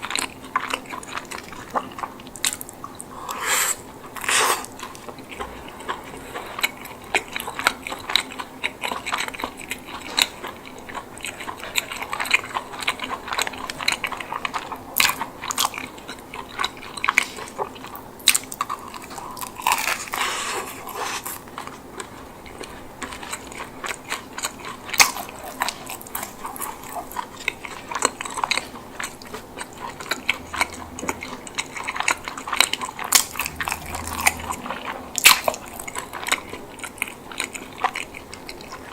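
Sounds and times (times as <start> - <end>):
wet chewing: 0.0 - 38.9.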